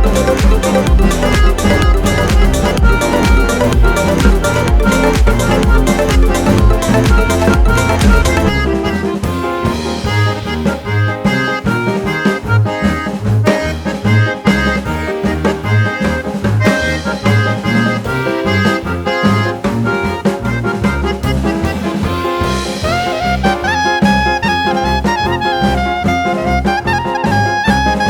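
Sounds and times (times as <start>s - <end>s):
instrumental music with beat: 0.0s - 28.0s.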